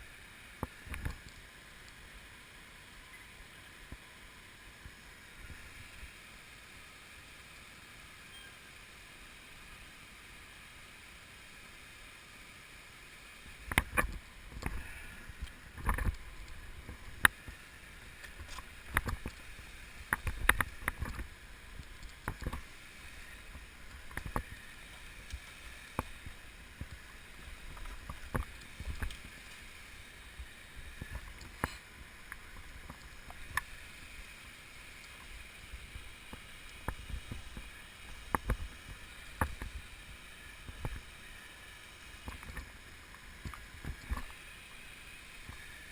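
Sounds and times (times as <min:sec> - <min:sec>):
faint steady rush: 0:00.0 - 0:45.9.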